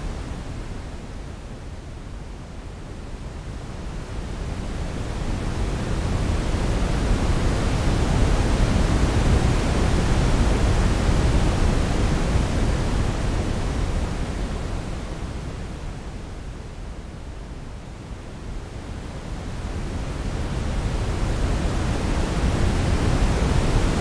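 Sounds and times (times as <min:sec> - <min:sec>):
simulated ocean waves: 0:03.8 - 0:24.0.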